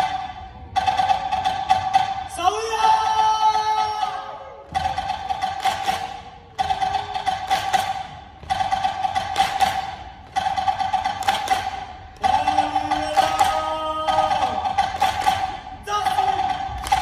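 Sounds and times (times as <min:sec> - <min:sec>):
wooden percussion strikes: 0:00.0 - 0:17.0.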